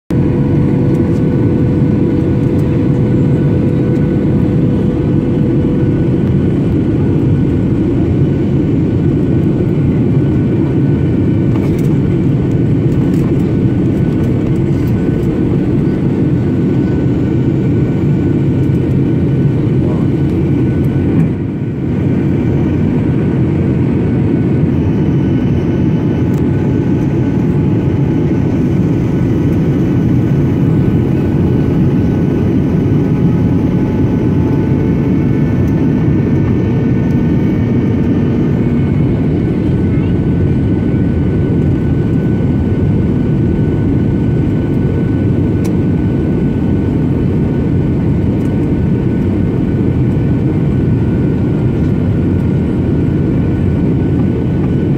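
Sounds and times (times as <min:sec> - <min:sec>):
airplane cabin airflow rush: 0:00.1 - 0:54.9
jet engines droning: 0:00.1 - 0:54.9.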